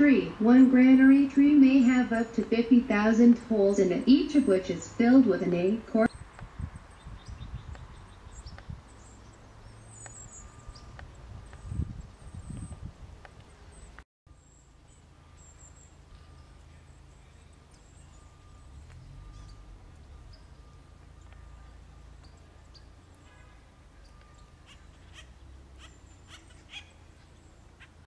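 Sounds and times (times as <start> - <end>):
low wind rumble: 0.0 - 28.0.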